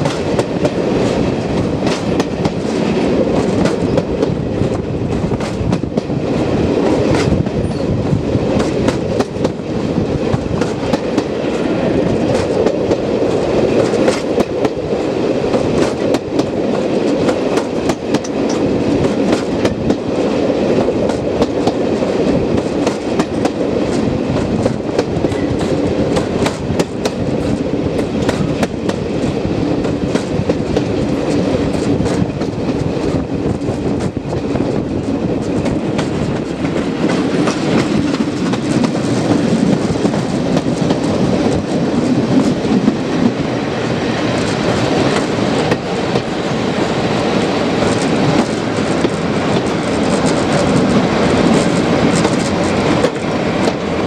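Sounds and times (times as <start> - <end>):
clatter over rail joints: 0.0 - 8.0, 8.6 - 14.8, 15.5 - 20.1, 20.8 - 43.4, 47.4 - 54.0
train wheels rumbling: 0.0 - 54.0.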